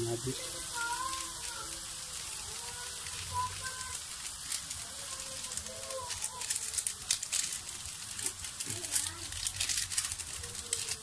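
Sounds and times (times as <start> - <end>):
food sizzling in a wok: 0.0 - 11.0
sharp crackles: 0.0 - 11.0.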